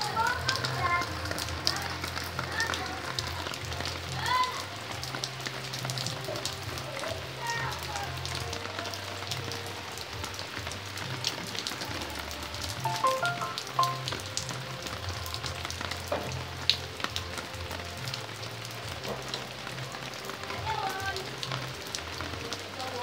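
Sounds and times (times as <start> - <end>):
rain falling on plants and paving: 0.0 - 23.0.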